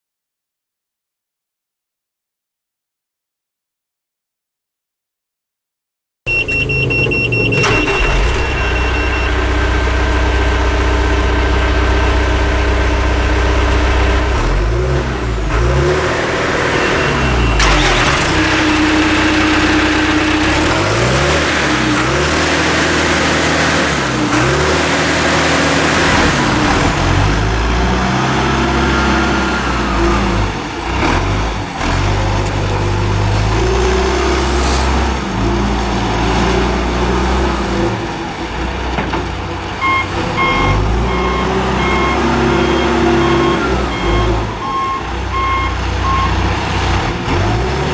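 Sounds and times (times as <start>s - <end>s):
diesel engine revving: 6.3s - 47.9s.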